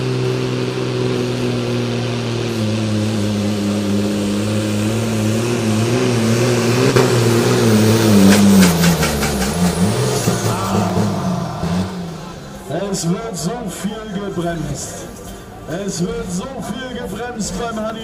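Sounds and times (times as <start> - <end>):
tractor diesel engine running loud: 0.0 - 18.0.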